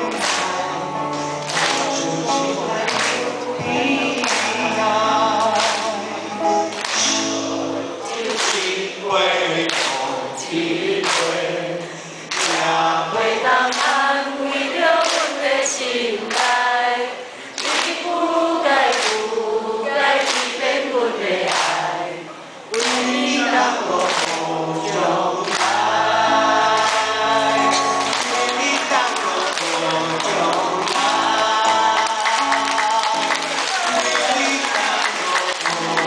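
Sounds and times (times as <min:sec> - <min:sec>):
acoustic guitar: 0:00.0 - 0:14.0, 0:20.4 - 0:36.0
man singing into a microphone: 0:00.0 - 0:15.8, 0:22.8 - 0:36.0.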